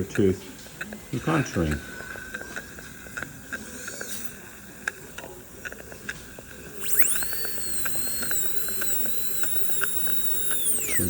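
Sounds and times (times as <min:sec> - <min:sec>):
dental instruments clicking: 0:00.0 - 0:11.0
dental drill whine: 0:01.1 - 0:11.0.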